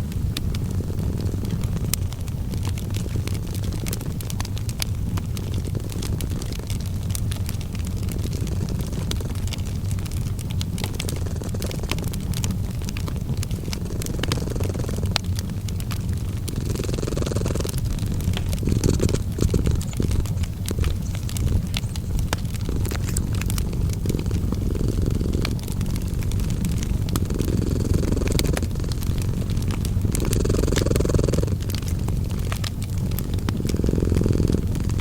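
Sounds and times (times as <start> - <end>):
cat purring: 0.0 - 35.0
wood fire crackling: 0.0 - 35.0.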